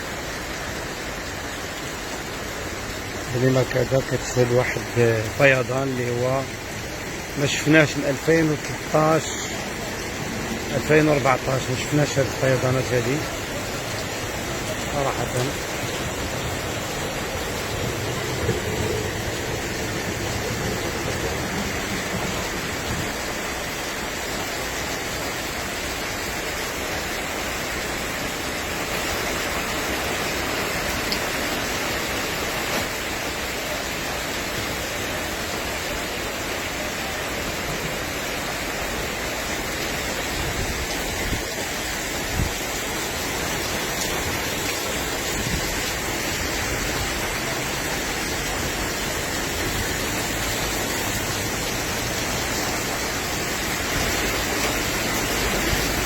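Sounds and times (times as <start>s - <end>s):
heavy rain and floodwater pouring: 0.0s - 56.0s.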